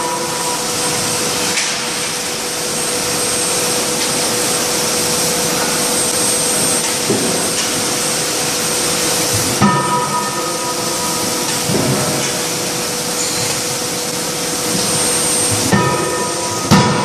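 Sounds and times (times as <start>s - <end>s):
loud machinery rushing and humming: 0.0s - 17.0s.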